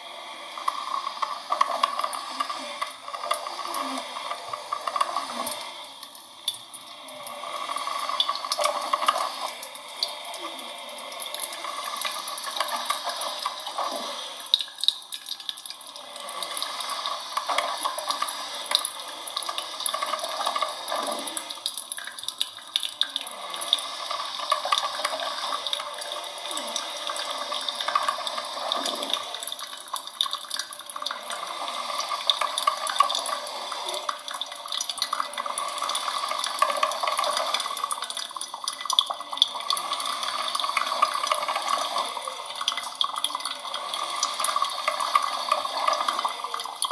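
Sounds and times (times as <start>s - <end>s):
coffee machine running: 0.0s - 46.9s.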